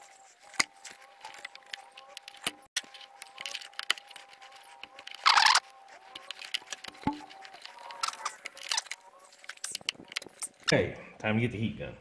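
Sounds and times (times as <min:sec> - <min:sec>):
wire stripper rasp: 0:00.0 - 0:10.7
wires and connectors rattling: 0:00.0 - 0:10.8.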